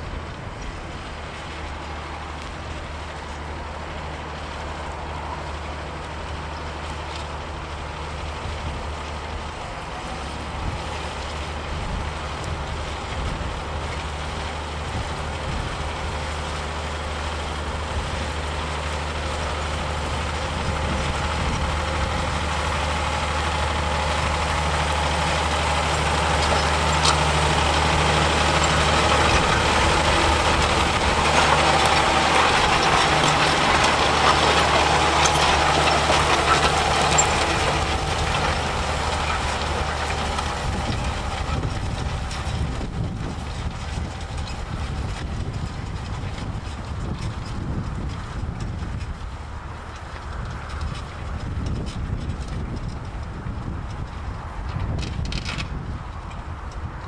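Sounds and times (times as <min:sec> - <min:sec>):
tractor engine working under load: 0:00.0 - 0:57.0.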